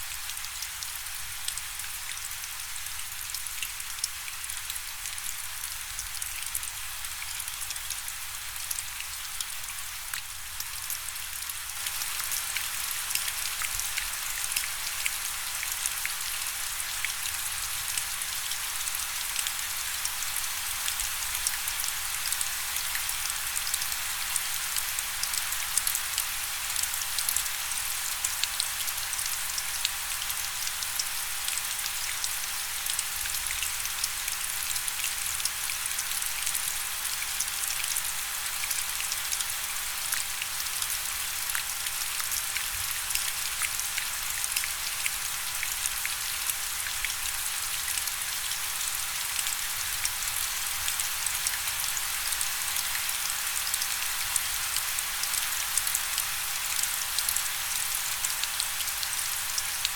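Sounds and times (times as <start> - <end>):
rain drops ticking on surface: 0.0 - 59.9.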